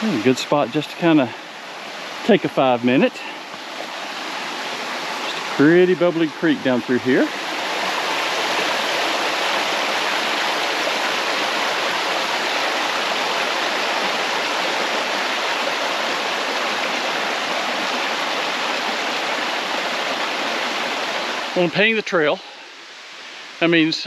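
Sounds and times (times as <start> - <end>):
mountain creek water rushing: 0.0 - 24.0.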